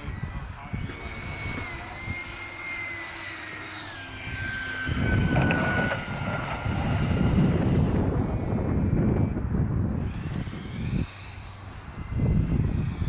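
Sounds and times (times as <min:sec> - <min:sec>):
model jet engine whine: 0:00.0 - 0:13.0.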